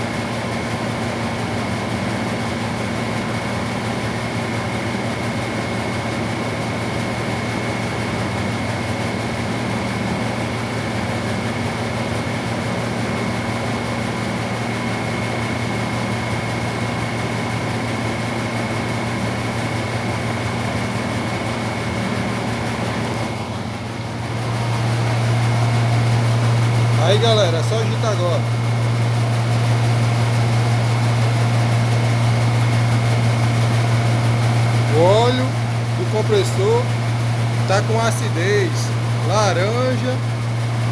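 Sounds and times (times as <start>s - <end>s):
refrigeration machinery hum: 0.0s - 40.9s.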